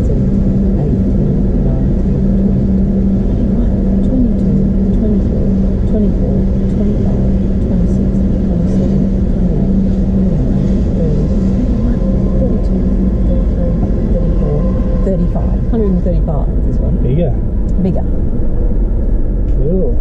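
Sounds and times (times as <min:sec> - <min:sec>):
freight train wheels rumbling: 0:00.0 - 0:20.0
low hum: 0:00.0 - 0:20.0.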